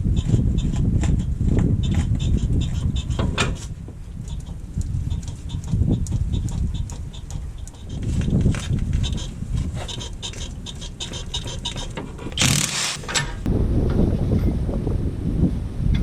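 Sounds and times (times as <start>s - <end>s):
leaf springs squeaking: 0.0s - 13.5s
low road rumble: 0.0s - 16.0s.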